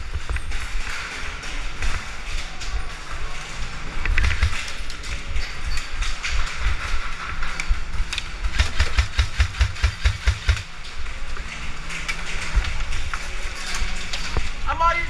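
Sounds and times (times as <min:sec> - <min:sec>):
gear and rifle rustling: 0:00.0 - 0:15.0.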